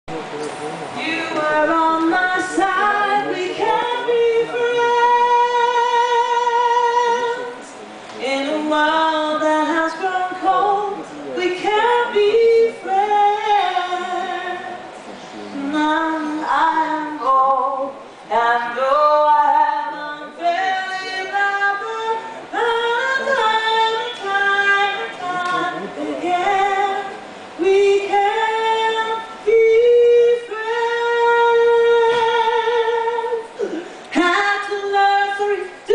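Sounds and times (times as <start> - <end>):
woman singing: 1.0 - 14.8, 15.6 - 35.9.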